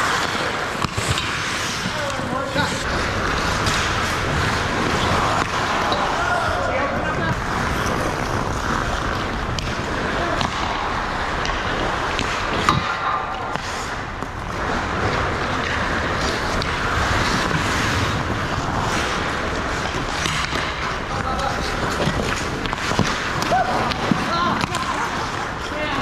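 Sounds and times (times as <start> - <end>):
skates scraping on ice: 0.0 - 26.0.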